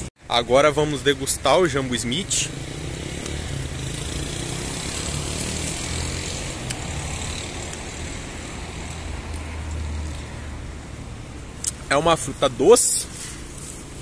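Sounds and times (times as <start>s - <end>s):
street noise: 0.0s - 14.0s
vehicle engine humming: 0.0s - 14.0s.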